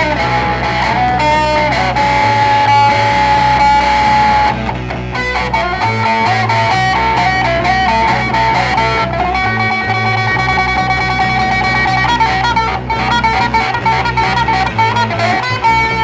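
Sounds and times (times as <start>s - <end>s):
bass line: 0.0s - 16.0s
electric guitar long bent notes: 0.0s - 16.0s.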